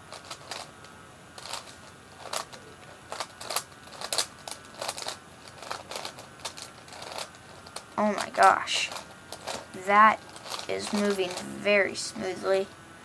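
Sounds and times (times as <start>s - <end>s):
puzzle cube plastic clicks: 0.1s - 11.6s.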